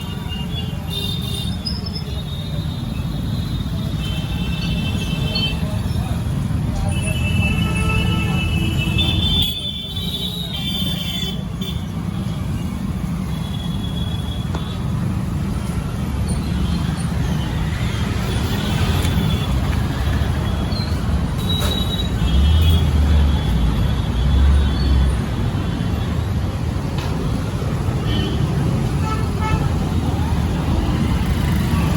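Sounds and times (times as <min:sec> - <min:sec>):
vehicle engines rumbling: 0:00.0 - 0:31.9.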